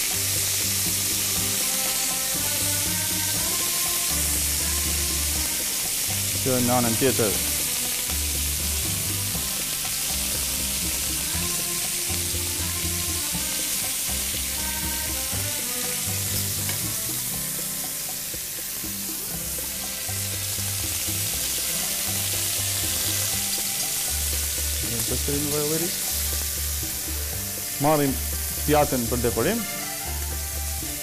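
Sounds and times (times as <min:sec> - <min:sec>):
background music: 0:00.0 - 0:31.0
meat sizzling on a grill plate: 0:00.0 - 0:31.0.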